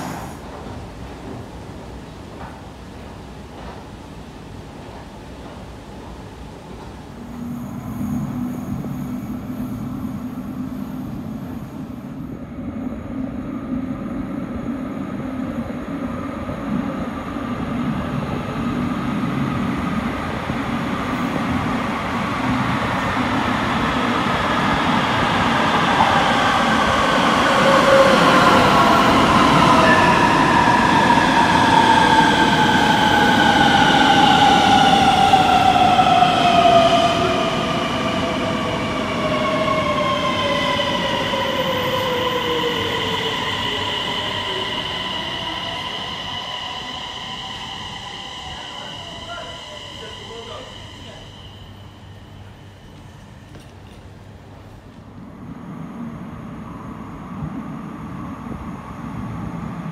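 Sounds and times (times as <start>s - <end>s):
train rumble: 0.0s - 59.9s
train braking whine: 7.0s - 59.9s.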